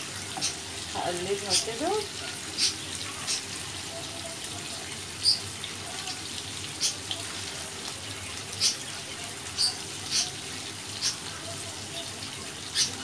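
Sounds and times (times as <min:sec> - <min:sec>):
chicken livers sizzling in oil: 0:00.0 - 0:13.0.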